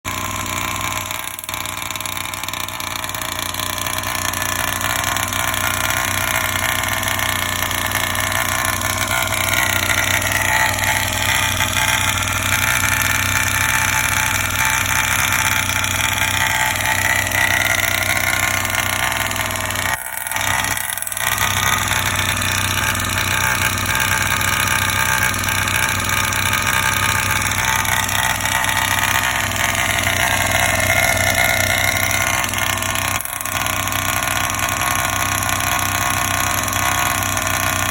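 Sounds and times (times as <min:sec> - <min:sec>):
two-stroke engine running: 0:00.0 - 0:37.9.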